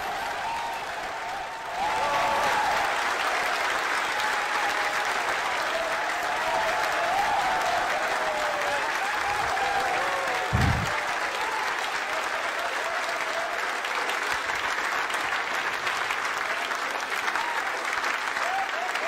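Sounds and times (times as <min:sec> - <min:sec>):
crowd applauding: 0:00.0 - 0:19.0
crowd cheering: 0:00.0 - 0:19.0.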